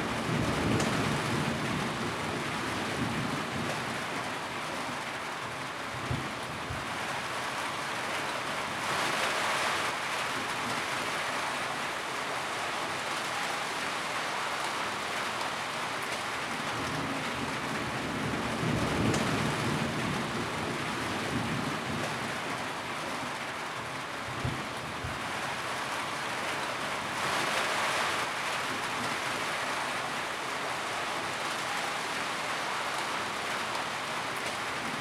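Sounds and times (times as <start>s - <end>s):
rain drumming on a tin roof: 0.0s - 35.0s.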